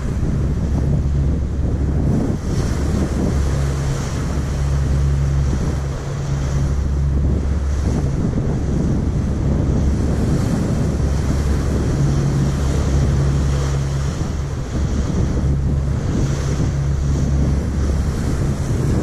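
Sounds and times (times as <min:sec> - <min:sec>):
low engine drone: 0:00.0 - 0:19.0
water rushing along hull: 0:00.0 - 0:19.0
wind buffeting microphone: 0:00.0 - 0:19.0.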